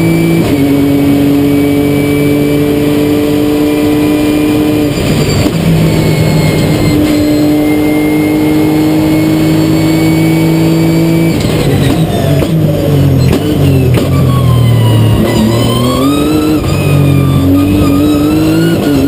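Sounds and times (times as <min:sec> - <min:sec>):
race car engine: 0:00.0 - 0:19.0.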